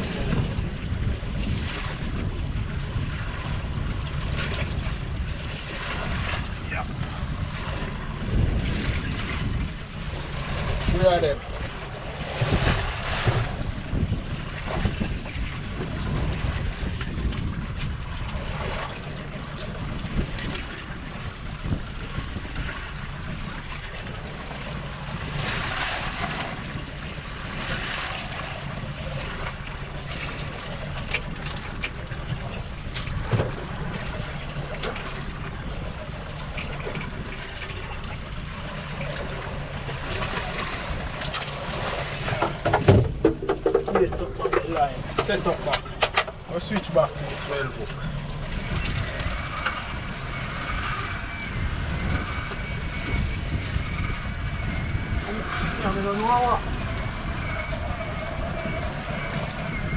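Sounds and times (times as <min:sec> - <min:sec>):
water washing against boat: 0:00.0 - 0:59.9
wind buffeting microphone: 0:00.0 - 0:59.9.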